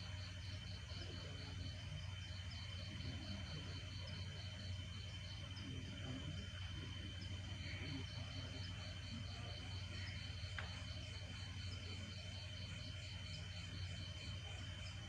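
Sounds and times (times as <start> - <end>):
crickets chirping: 0.0 - 15.0
low steady hum: 0.0 - 15.0.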